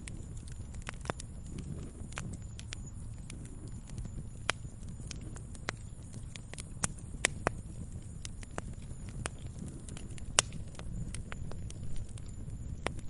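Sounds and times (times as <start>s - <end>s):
campfire crackling and popping: 0.0s - 13.0s
rush of burning fire: 0.0s - 13.0s.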